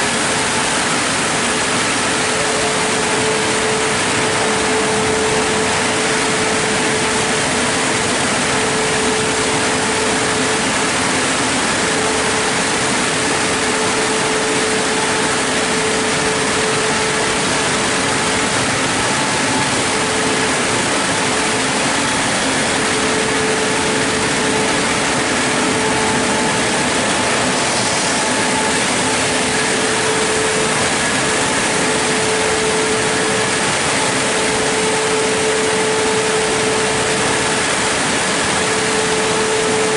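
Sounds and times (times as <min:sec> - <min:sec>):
fan motors humming: 0:00.0 - 0:39.9.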